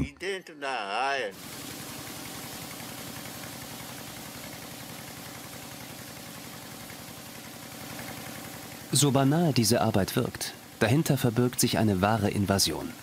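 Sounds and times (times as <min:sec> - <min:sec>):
engine-driven water pump running: 0:01.4 - 0:13.0
high-pressure hose jet spraying: 0:01.4 - 0:13.0.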